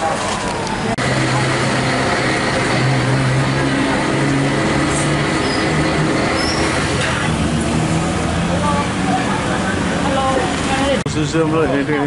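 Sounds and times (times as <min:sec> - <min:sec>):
road noise: 0:00.0 - 0:12.0
vehicle engines running: 0:00.0 - 0:12.0.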